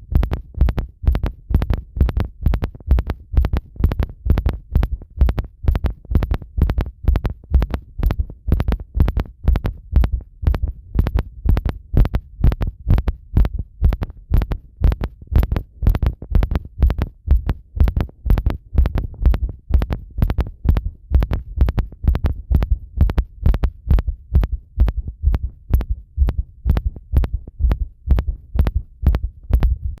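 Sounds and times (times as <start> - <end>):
human heartbeat: 0.0 - 30.0.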